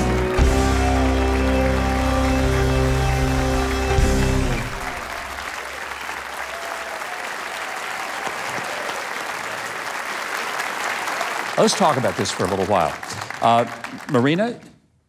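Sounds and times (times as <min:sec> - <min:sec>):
studio audience applauding: 0:00.0 - 0:14.6.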